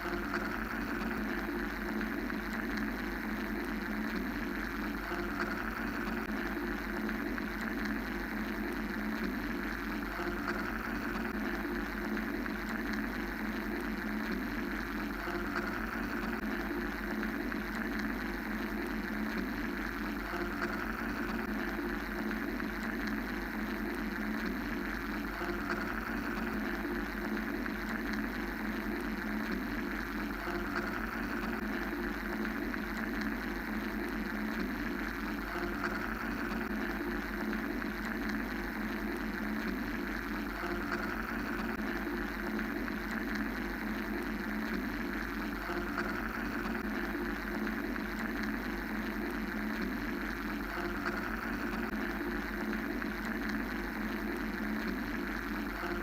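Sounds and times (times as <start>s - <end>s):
mechanical white noise drone: 0.0s - 56.0s.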